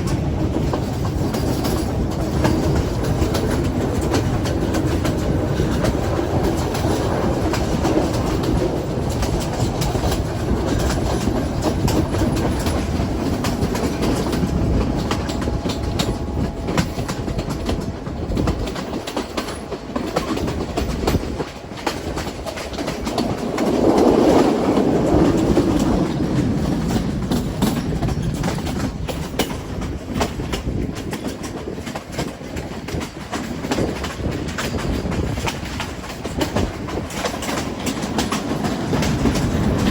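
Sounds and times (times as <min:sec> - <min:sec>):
train rumbling on track: 0:00.0 - 0:39.9
wheels clacking over rail joints: 0:00.0 - 0:39.9.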